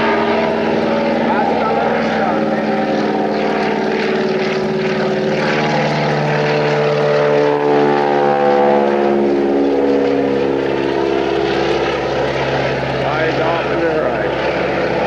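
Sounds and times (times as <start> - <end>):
propeller plane taking off: 0.0 - 15.0.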